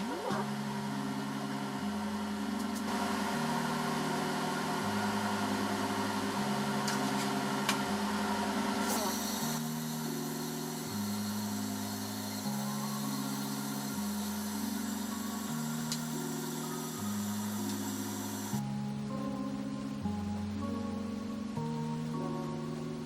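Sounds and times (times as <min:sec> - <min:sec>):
low synth chords: 0:00.0 - 0:23.0.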